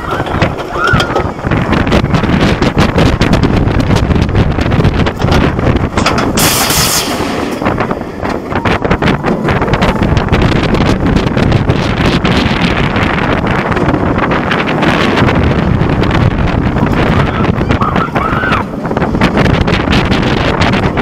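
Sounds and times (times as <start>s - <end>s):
roller coaster train running: 0.0s - 21.0s
wind buffeting microphone: 0.0s - 21.0s.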